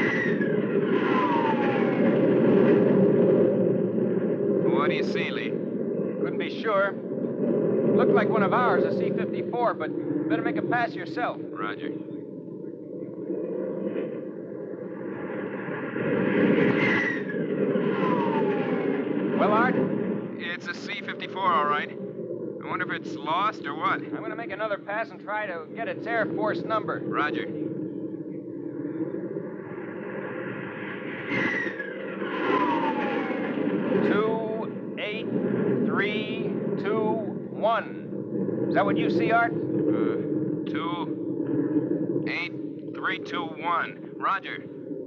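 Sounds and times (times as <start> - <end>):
aircraft engine drone: 0.0 - 45.0
falling whine: 0.0 - 45.0.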